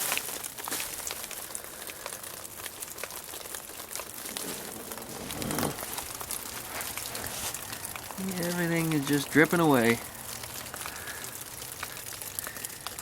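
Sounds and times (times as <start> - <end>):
meltwater dripping: 0.0 - 13.0.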